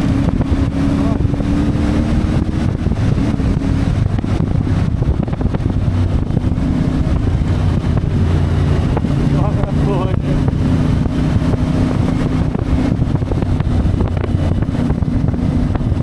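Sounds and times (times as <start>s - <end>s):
motorcycle engine running: 0.0s - 16.0s
wind noise on microphone: 0.0s - 16.0s.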